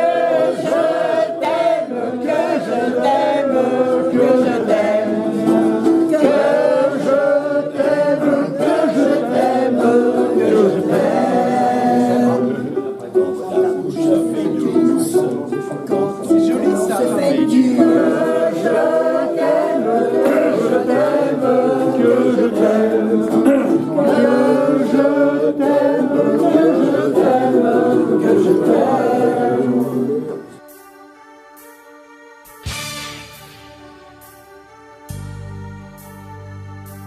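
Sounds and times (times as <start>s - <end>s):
ukulele strumming: 0.0s - 30.6s
group of people singing: 0.0s - 31.2s
quiet instrumental music: 0.1s - 37.0s.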